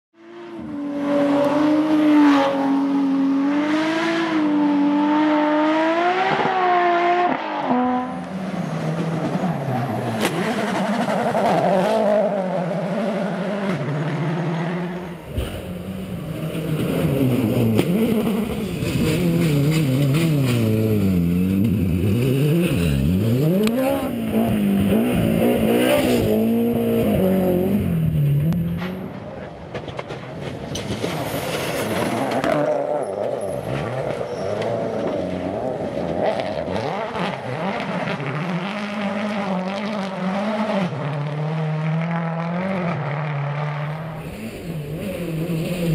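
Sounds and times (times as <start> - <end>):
rally car engines revving hard: 0.2 - 29.2, 31.2 - 45.9.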